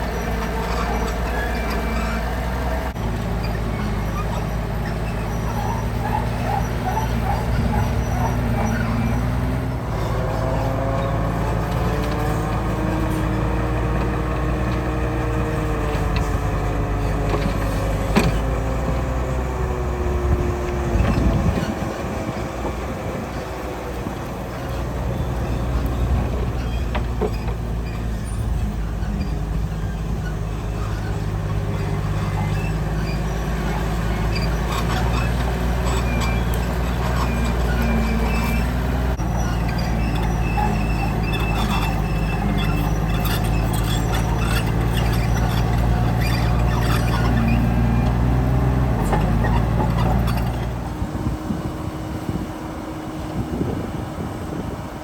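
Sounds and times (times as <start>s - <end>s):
heavy diesel engine rumbling: 0.0s - 55.0s
whining tone: 0.0s - 55.0s.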